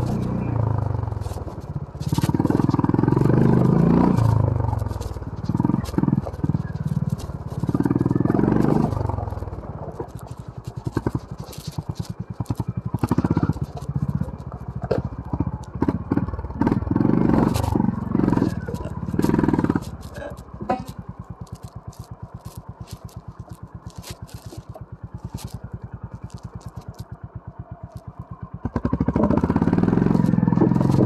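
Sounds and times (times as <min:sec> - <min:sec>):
clicks and clatter from trail: 0:00.0 - 0:31.0
motorcycle engine revving: 0:00.0 - 0:31.0.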